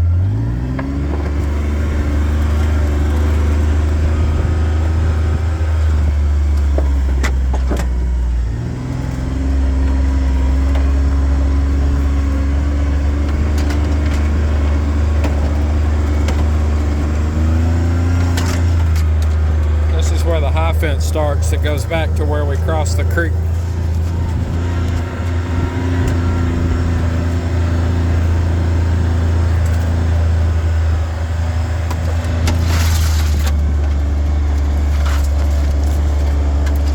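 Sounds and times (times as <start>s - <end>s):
vehicle engine on dirt road: 0.0s - 36.9s.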